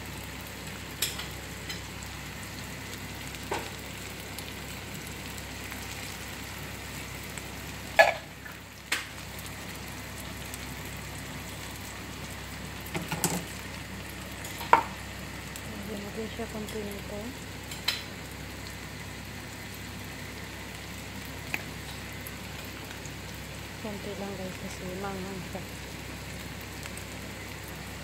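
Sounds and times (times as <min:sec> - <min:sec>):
eggs sizzling in a frying pan: 0:00.0 - 0:28.0.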